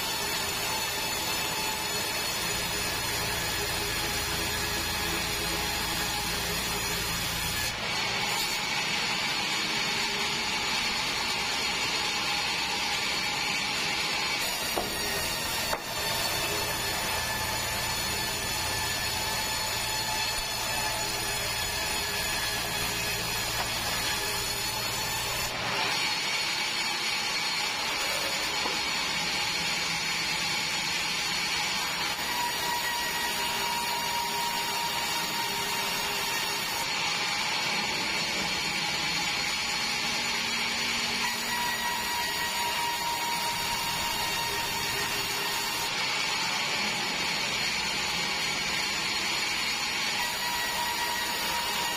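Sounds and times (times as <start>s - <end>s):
band saw blade whining through wood: 0.0s - 51.9s.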